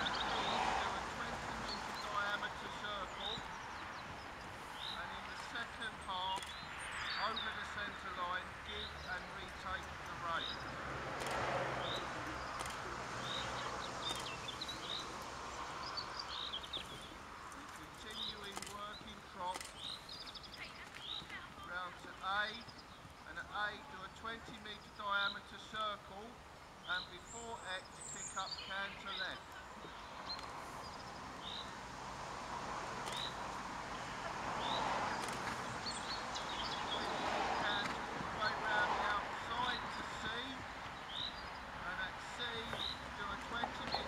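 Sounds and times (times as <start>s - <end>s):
steady background hiss: 0.0s - 20.6s, 21.6s - 44.0s
small birds chirping and twittering: 0.0s - 44.0s
steady background noise: 0.0s - 44.0s.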